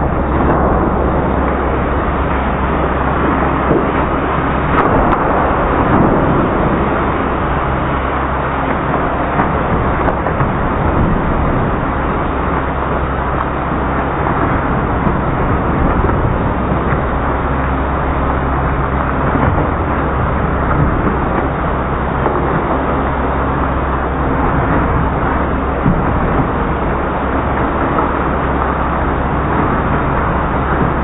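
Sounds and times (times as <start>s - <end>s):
car wash rushing noise: 0.0s - 31.0s
low hum: 0.0s - 31.0s.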